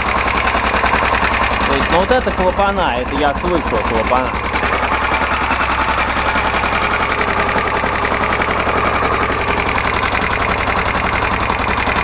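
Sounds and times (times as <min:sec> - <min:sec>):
motorcycle engine idling: 0:00.0 - 0:12.0
valve train clatter: 0:00.0 - 0:12.0.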